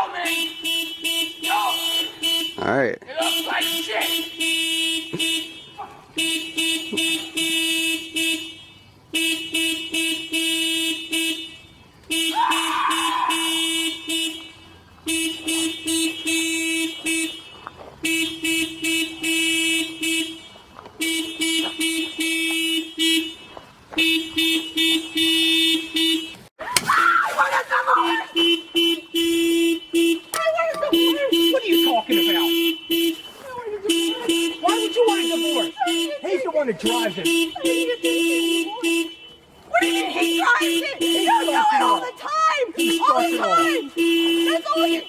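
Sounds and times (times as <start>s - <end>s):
car alarm horn pulses: 0.0s - 26.5s, 28.2s - 45.0s.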